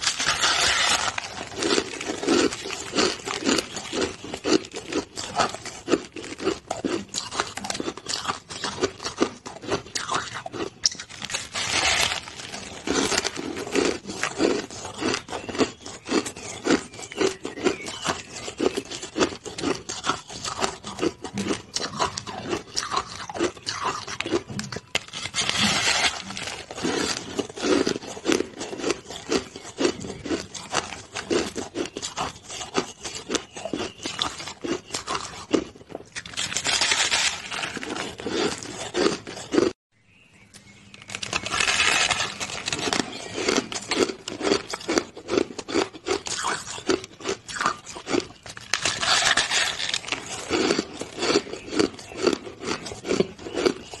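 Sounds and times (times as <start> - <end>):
shaved ice crunching: 0.0 - 39.7, 41.0 - 54.0.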